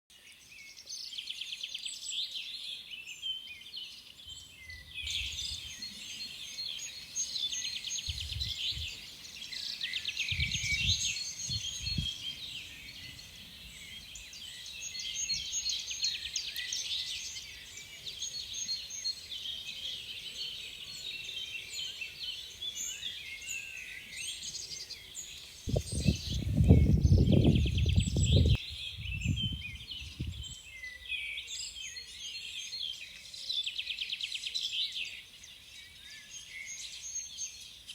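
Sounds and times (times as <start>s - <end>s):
songbirds singing and chirping: 0.1s - 37.9s.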